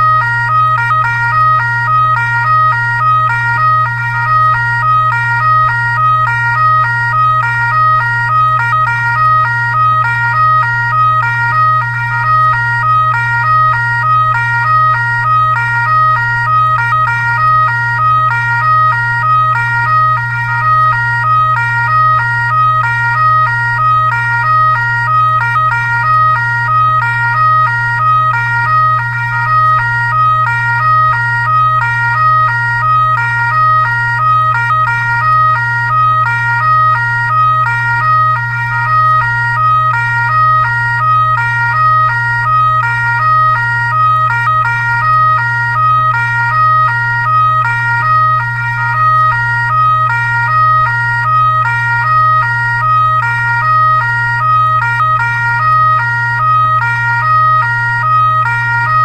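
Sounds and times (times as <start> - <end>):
two-tone fire truck siren: 0.0 - 59.0.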